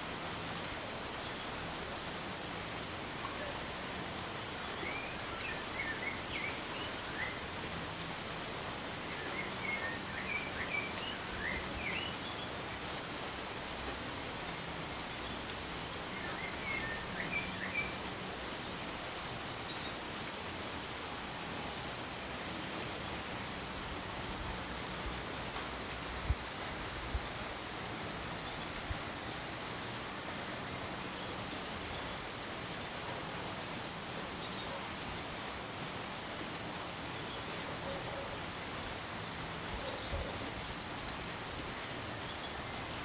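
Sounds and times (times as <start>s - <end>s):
rain hissing: 0.0s - 43.0s.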